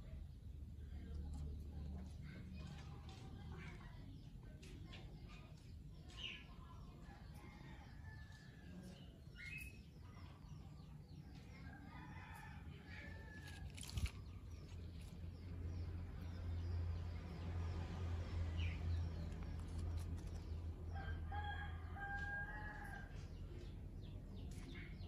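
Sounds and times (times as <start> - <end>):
birds calling and chirping: 0.0 - 25.0.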